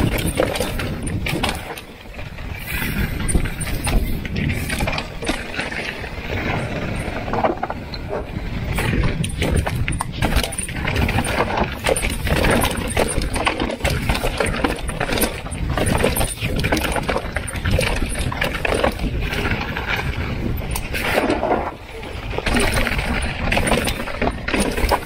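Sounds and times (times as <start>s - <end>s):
wind on microphone: 0.0s - 12.8s, 15.0s - 24.5s
mountain bike clattering: 0.0s - 25.0s.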